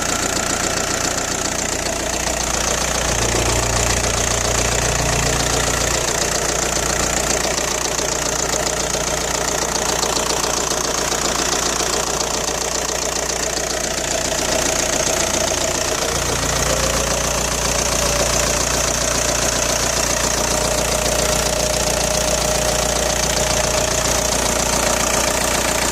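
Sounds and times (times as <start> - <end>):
diesel engine rattling clatter: 0.0 - 25.9.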